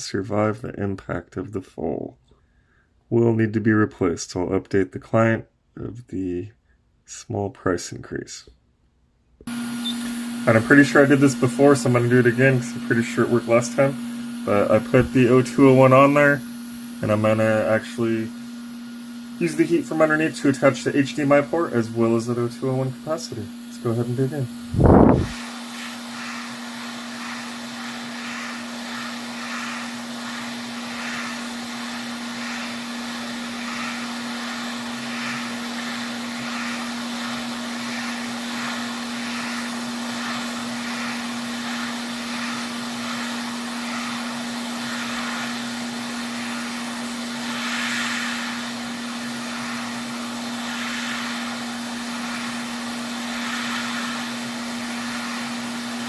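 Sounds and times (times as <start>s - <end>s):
hot-air soldering tool blowing: 9.4s - 56.0s.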